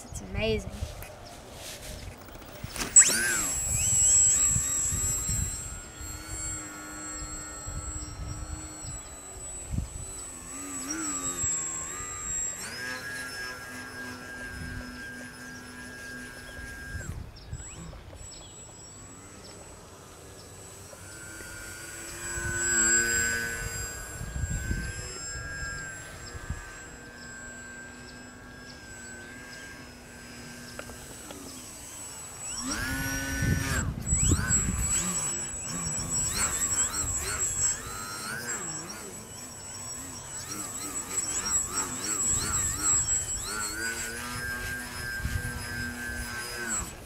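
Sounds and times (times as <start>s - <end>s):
model plane electric motor whining: 0.0s - 47.0s.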